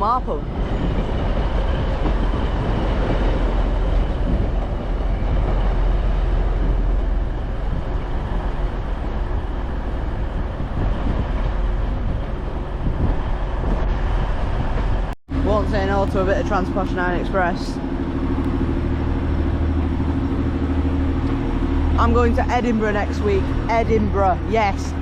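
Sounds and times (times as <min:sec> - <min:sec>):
diesel train rumble: 0:00.0 - 0:25.0
wheel and rail noise: 0:00.0 - 0:25.0.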